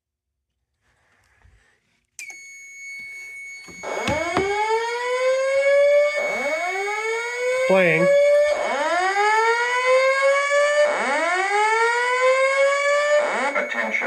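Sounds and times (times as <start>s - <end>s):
high-pitched alarm tone: 2.2s - 14.0s
whooping evacuation tone: 2.2s - 14.0s.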